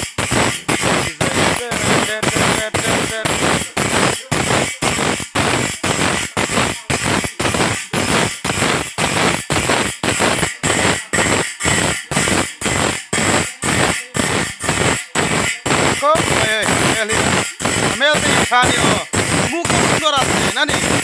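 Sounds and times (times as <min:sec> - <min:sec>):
grinding wheel rasping on saw teeth: 0:00.0 - 0:21.0.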